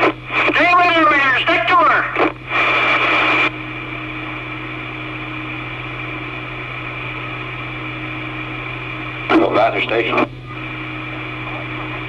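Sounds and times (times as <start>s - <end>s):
faint whine tones: 0.0s - 12.0s
radio static hiss: 0.0s - 12.0s
steady hum: 0.0s - 12.0s.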